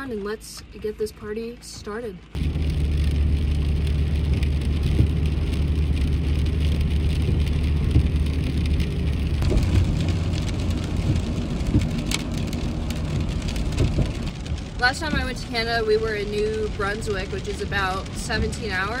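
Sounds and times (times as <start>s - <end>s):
engine and tyres droning: 0.0s - 19.0s
rain and tyre spray hissing: 2.2s - 19.0s.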